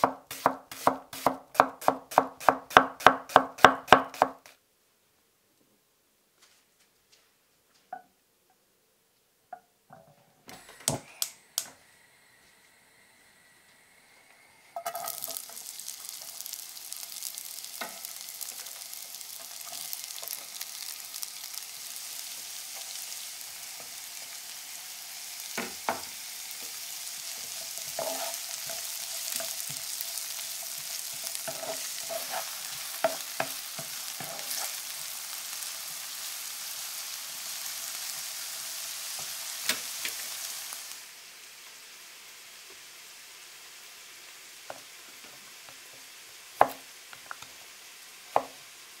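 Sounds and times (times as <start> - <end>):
onions sizzling in oil: 0.0 - 4.5, 10.8 - 49.0.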